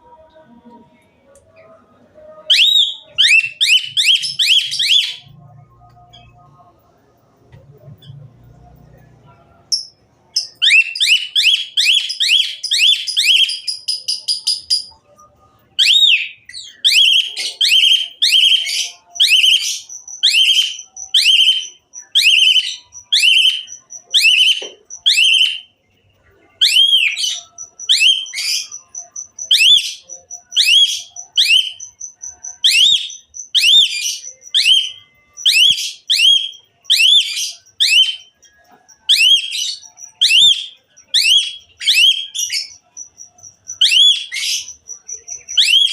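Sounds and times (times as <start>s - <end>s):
starling whistling song: 2.4s - 6.5s, 9.7s - 25.7s, 26.3s - 45.9s.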